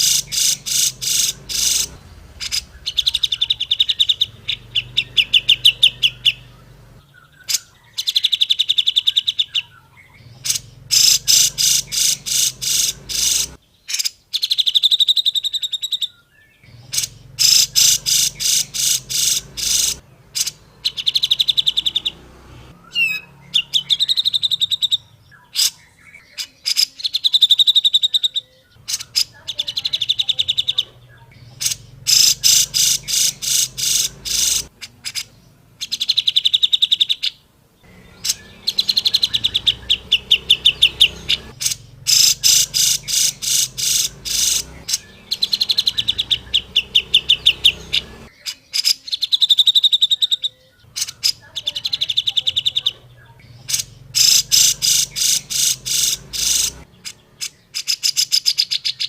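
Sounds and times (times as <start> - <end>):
bird chattering and trilling: 0.0 - 59.0.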